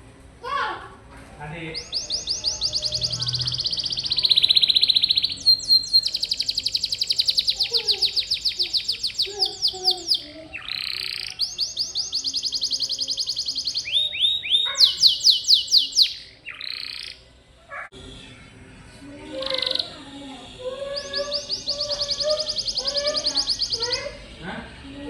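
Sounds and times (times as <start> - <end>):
canary singing trills: 1.6 - 24.4.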